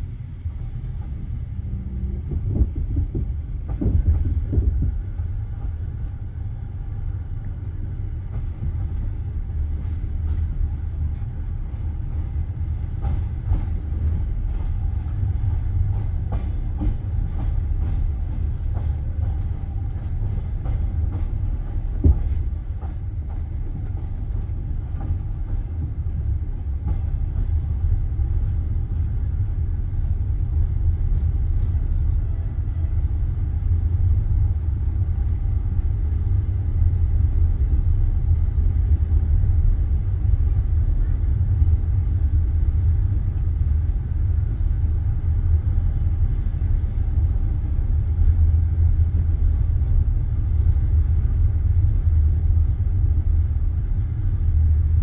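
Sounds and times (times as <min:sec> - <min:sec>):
railway carriage rumble: 0:00.0 - 0:55.0.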